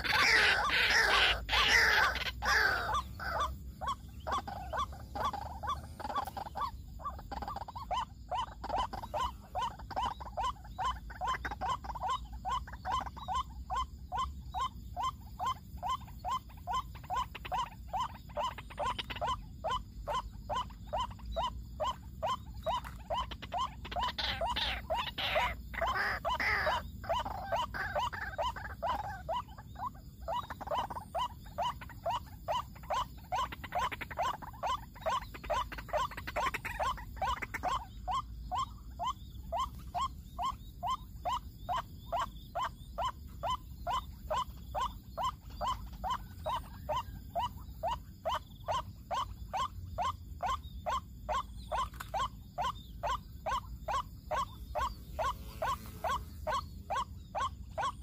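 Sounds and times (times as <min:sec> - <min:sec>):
waterhen croaking calls: 0:00.0 - 0:58.0.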